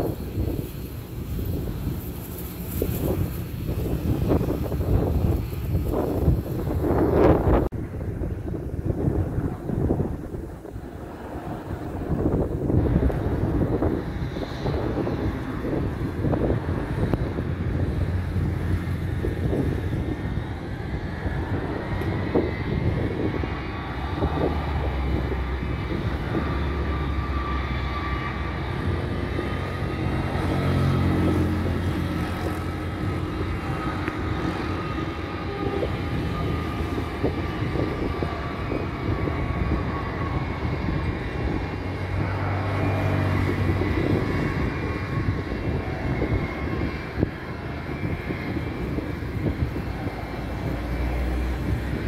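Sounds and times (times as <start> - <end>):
jet engine turbine whine: 0.0 - 52.0.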